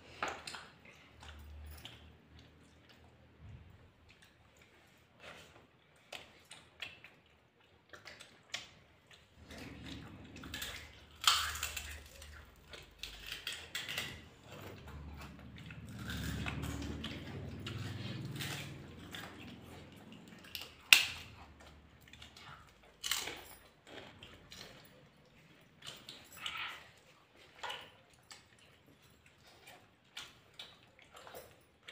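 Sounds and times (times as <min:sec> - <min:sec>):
people chewing: 0:00.0 - 0:31.9.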